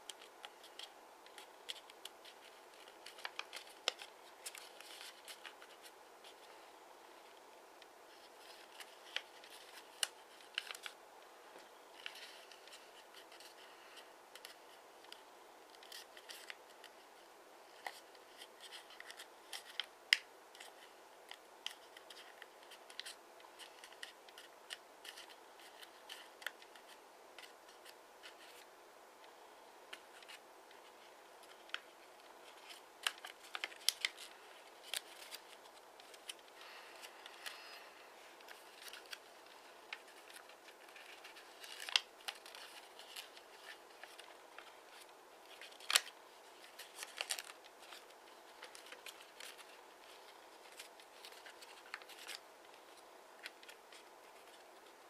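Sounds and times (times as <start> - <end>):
paper folding crackles and rustles: 0.0 - 28.7, 29.3 - 55.0.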